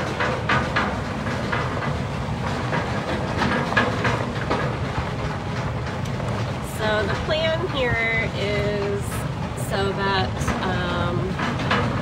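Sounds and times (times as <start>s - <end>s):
carts rumbling over dirt road: 0.0s - 12.0s.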